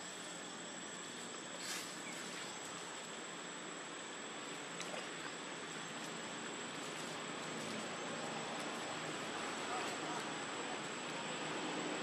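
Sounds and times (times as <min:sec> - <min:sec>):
soft even hiss: 0:00.0 - 0:11.2
high steady whine: 0:00.0 - 0:12.0.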